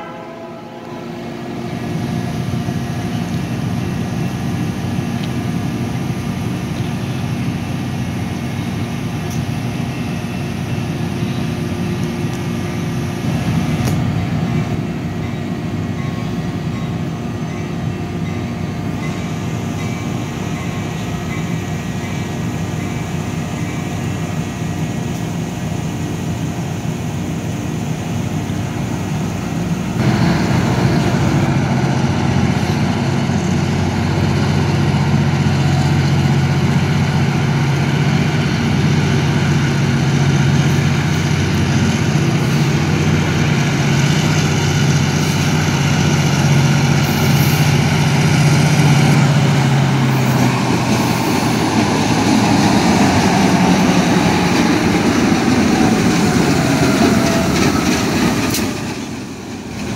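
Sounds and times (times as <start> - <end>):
diesel locomotive engines droning: 0.0 - 59.9.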